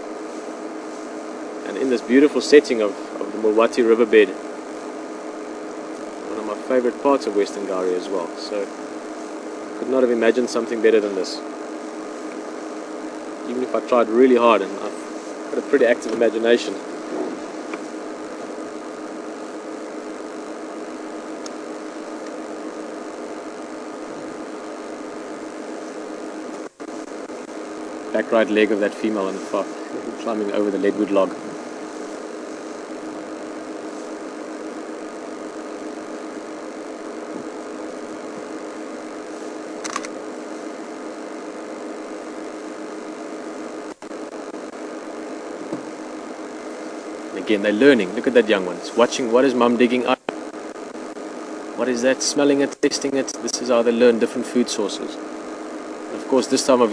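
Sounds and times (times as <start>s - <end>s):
even hiss: 0.0s - 56.9s
mechanical hum with tones: 0.0s - 56.9s.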